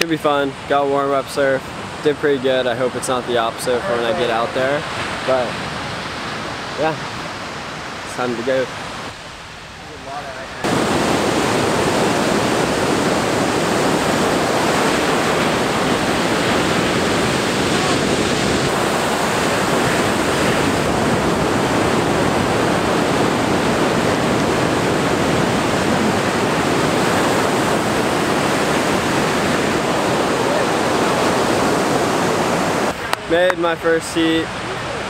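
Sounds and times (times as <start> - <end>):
ocean surf breaking: 0.0 - 35.0.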